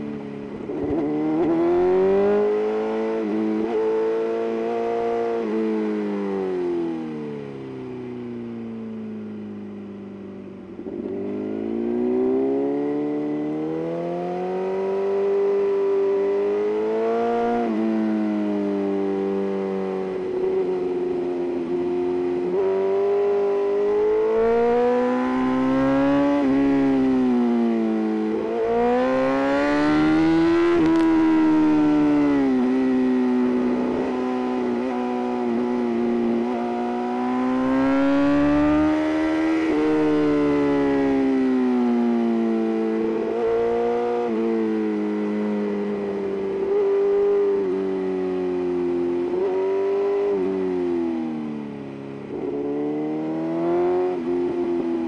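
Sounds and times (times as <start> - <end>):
motorcycle engine revving: 0.4 - 6.8, 10.7 - 55.0.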